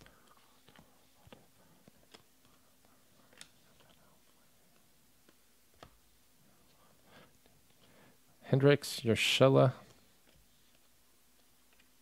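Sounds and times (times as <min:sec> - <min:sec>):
faint ticks of cards sliding: 0:00.0 - 0:08.1, 0:09.6 - 0:12.0.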